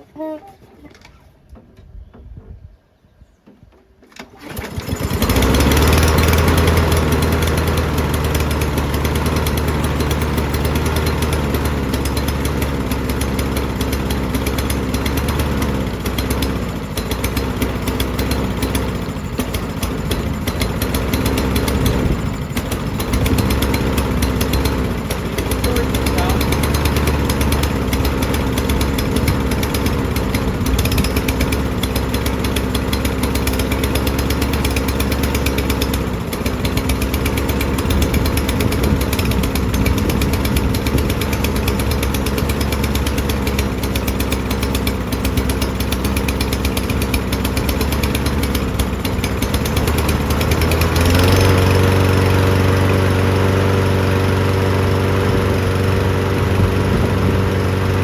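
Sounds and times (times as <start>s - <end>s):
lawn mower engine running: 3.8s - 58.0s.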